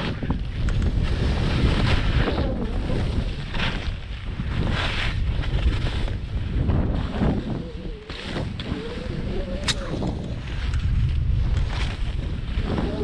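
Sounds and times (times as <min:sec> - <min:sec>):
skis swooshing through snow: 0:00.0 - 0:13.0
wind buffeting microphone: 0:00.0 - 0:13.0.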